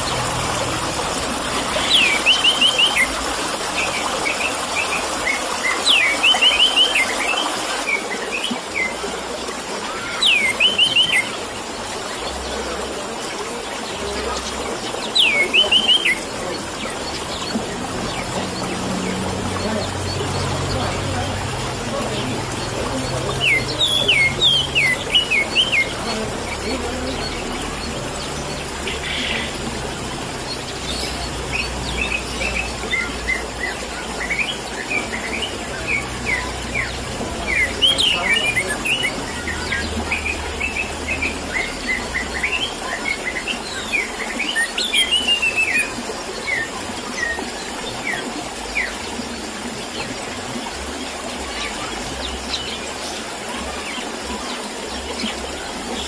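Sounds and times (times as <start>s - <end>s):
trickling water: 0.0s - 56.0s.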